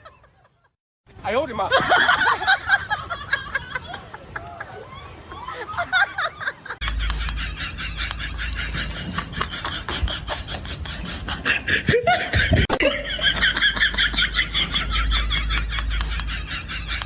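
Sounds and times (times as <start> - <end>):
high-pitched laughter: 1.8 - 17.0.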